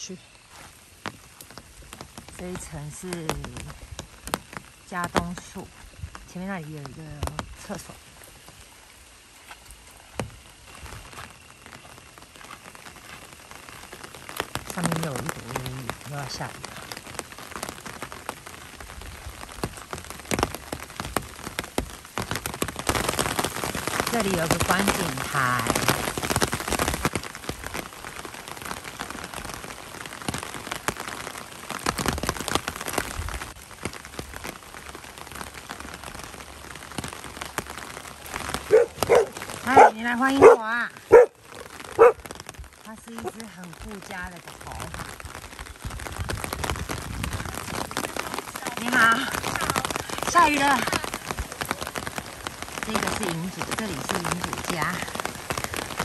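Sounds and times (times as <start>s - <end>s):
light rain pattering: 0.0s - 56.0s.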